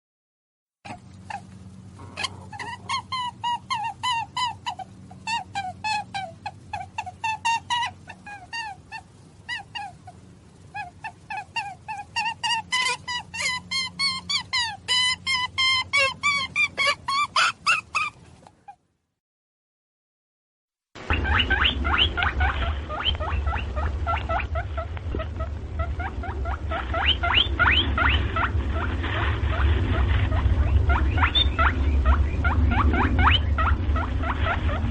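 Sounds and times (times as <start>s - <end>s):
rabbit squeaking: 0.9s - 18.8s, 21.0s - 34.9s
steady low hum: 0.9s - 18.8s, 21.0s - 34.9s.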